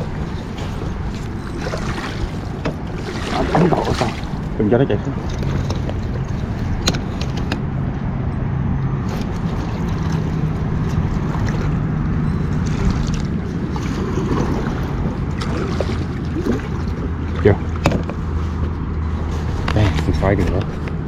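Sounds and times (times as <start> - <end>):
lapping water: 0.0 - 7.4, 9.1 - 18.6.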